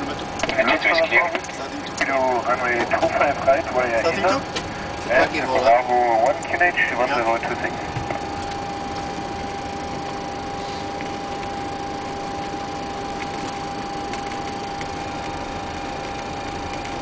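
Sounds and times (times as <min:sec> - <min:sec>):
mid-pitched whine: 0:00.0 - 0:17.0.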